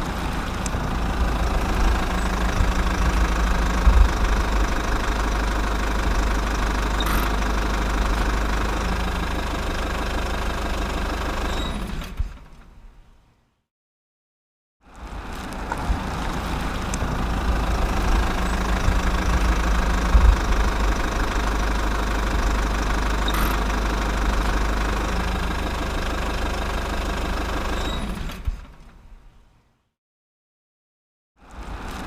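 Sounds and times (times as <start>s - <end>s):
motor rumbling: 0.0s - 12.5s, 15.0s - 28.4s.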